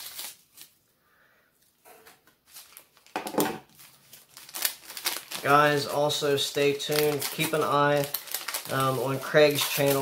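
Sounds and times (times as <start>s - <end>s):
bubble wrap and paper crinkling: 0.0s - 0.8s, 2.4s - 10.0s.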